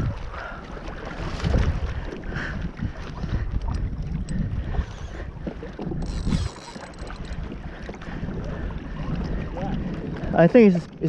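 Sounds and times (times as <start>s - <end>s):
water lapping against a hull: 0.0s - 11.0s
wind buffeting the microphone: 0.0s - 11.0s.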